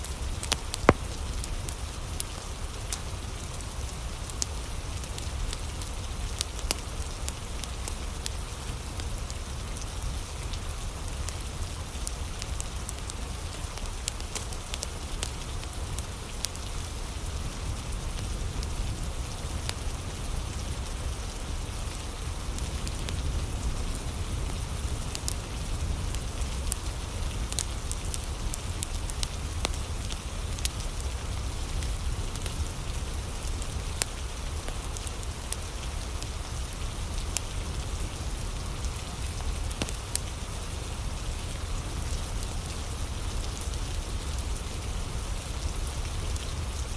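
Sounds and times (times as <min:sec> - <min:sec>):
steady rain: 0:00.0 - 0:46.9
wood fire crackling: 0:00.0 - 0:46.9.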